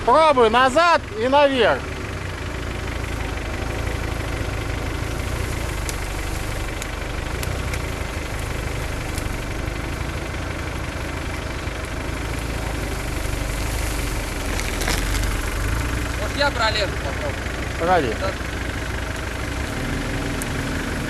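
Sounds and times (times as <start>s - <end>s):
suv engine at low revs: 0.0s - 21.0s.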